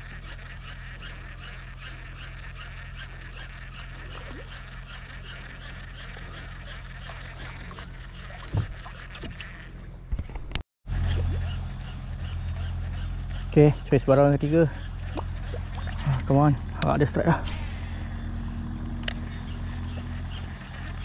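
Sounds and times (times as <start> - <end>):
frogs ticking: 0.0 - 10.2, 10.9 - 21.0
steady low hum: 0.0 - 21.0.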